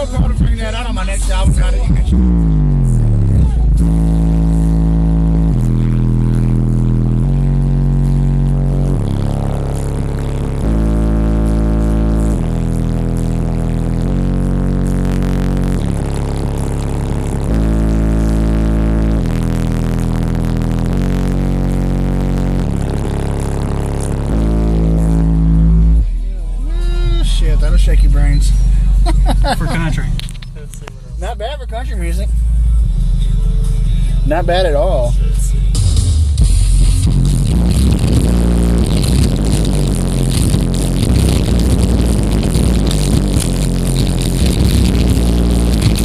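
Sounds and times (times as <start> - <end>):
subwoofer bass notes: 0.0 - 46.0.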